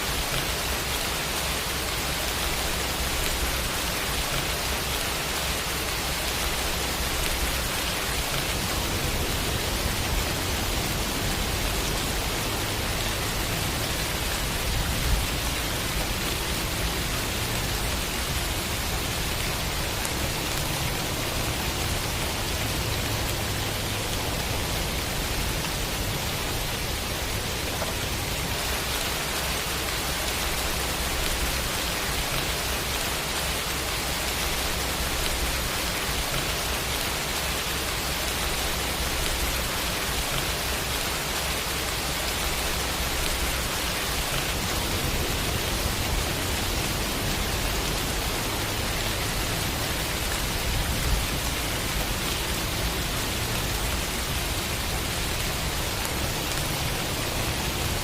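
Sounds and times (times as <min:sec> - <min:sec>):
dense rainfall hiss: 0:00.0 - 0:58.0.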